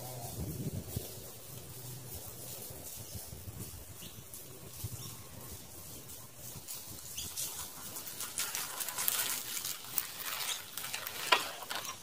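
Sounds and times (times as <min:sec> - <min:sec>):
bike tyres crackling over dry grass: 0:00.0 - 0:12.0.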